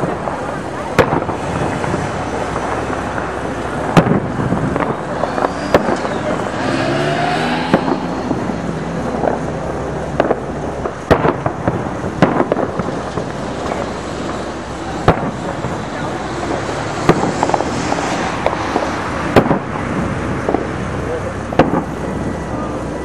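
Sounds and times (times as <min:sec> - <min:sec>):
fireworks bursting with bangs: 0:00.0 - 0:23.0
steady background din: 0:00.0 - 0:23.0.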